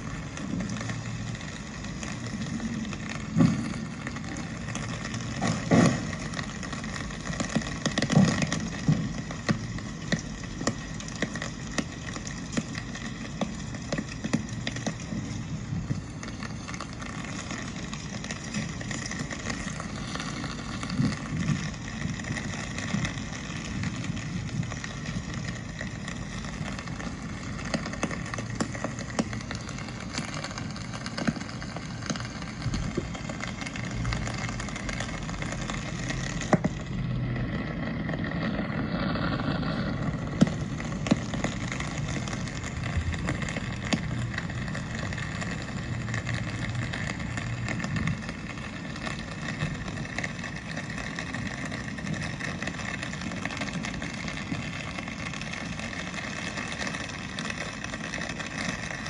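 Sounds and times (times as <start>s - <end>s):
rain on city street: 0.0s - 59.0s.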